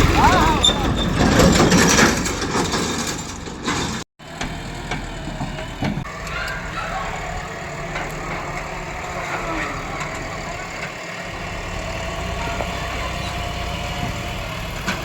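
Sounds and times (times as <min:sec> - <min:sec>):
heavy vehicle engine idling: 0:00.0 - 0:15.0.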